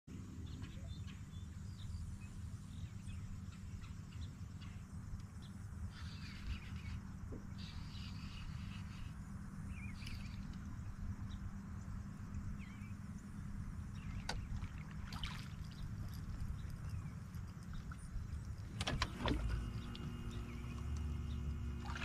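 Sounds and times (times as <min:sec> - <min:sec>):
birds chirping: 0:00.1 - 0:22.0
steady low hum: 0:00.1 - 0:22.0.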